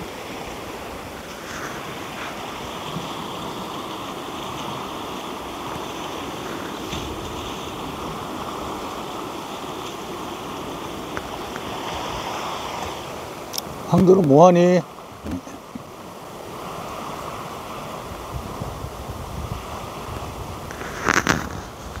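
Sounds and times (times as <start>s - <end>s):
sea surf: 0.0s - 22.0s
wind: 0.0s - 22.0s.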